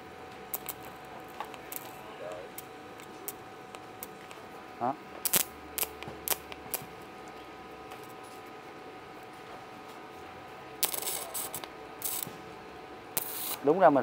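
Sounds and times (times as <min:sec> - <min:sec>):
welding machine whine: 0:00.0 - 0:14.0.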